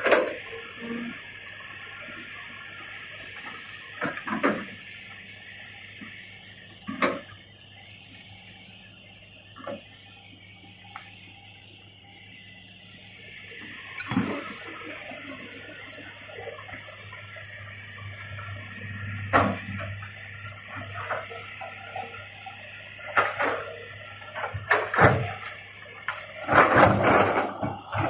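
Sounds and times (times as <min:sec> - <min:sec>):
excavator engine drone: 0:00.0 - 0:28.0.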